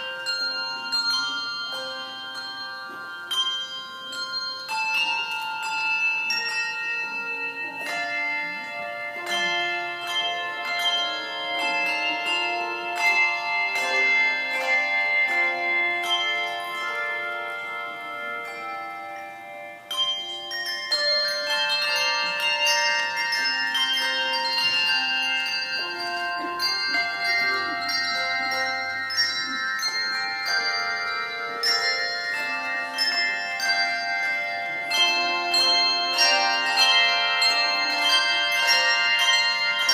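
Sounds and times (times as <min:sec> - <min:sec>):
handbell choir playing: 0:00.0 - 0:39.9.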